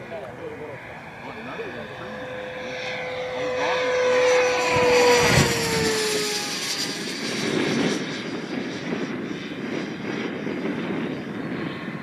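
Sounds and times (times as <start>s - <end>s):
model jet fan whine: 0.0s - 12.0s.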